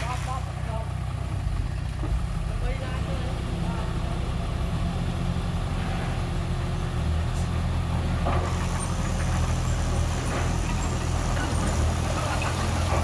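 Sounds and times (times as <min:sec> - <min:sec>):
heavy machine engine rumbling: 0:00.0 - 0:13.0.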